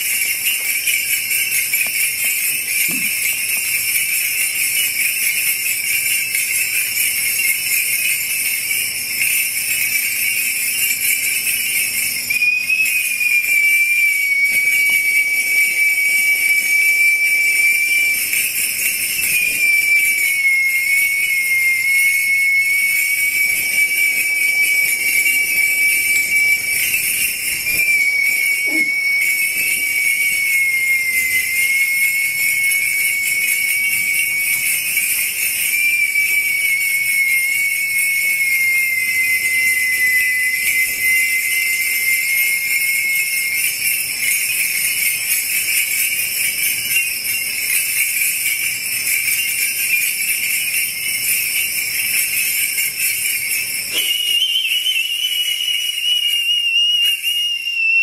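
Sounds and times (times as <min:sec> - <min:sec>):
shrine bells jingling: 0:00.0 - 0:57.7
high thin whistling tone: 0:00.0 - 0:58.0.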